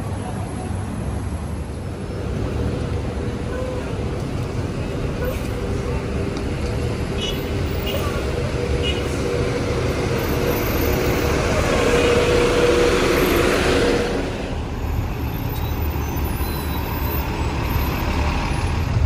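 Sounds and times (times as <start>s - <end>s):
bus driving past: 1.0s - 19.0s.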